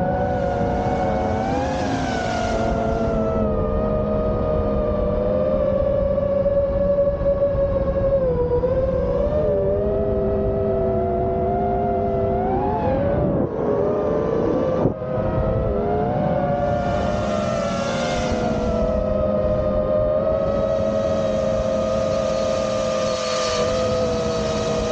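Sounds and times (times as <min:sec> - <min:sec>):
drone propellers whining: 0:00.0 - 0:24.9.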